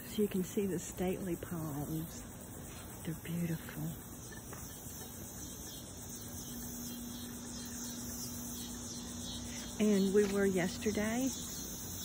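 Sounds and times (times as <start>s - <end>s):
insects droning: 0.0s - 12.0s
low steady hum: 0.0s - 12.0s.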